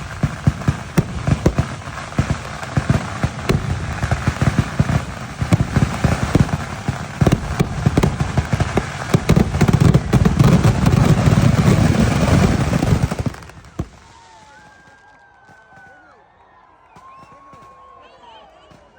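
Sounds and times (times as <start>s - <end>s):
firecracker bangs: 0.0s - 15.8s.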